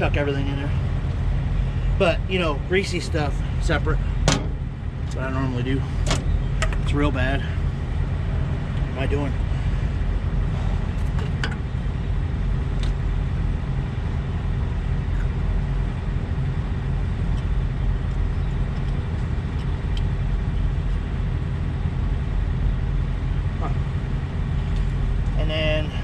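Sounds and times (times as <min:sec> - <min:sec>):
diesel truck engines idling: 0:00.0 - 0:26.0
faint constant hum: 0:00.0 - 0:26.0.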